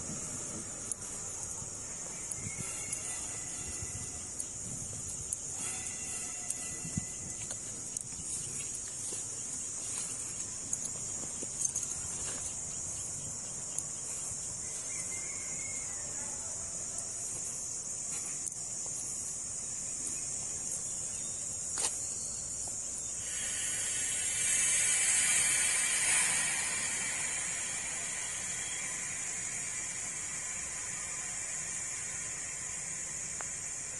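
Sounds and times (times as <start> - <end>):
insects droning: 0.0 - 33.9.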